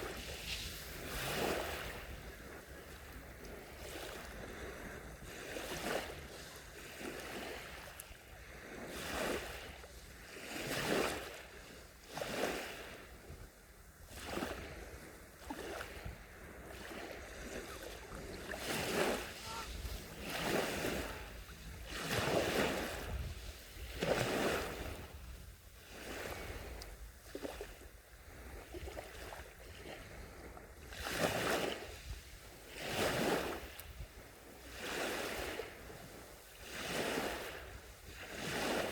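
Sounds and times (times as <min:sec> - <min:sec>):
small waves washing onto shore: 0:00.0 - 0:38.9.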